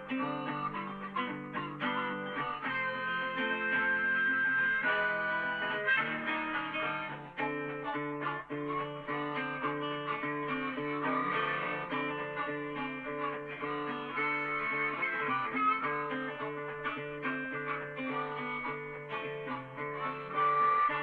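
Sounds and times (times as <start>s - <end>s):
plucked guitar music: 0.0s - 21.0s.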